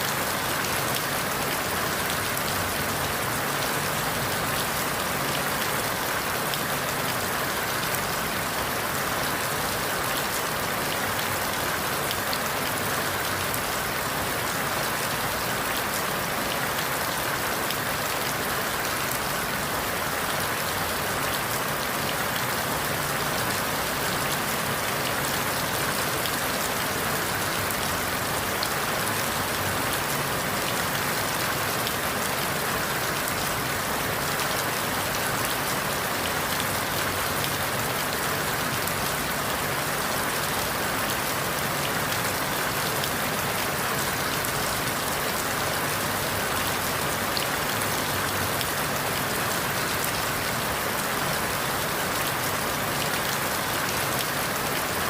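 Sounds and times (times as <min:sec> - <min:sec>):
rain falling through leaves: 0:00.0 - 0:55.0.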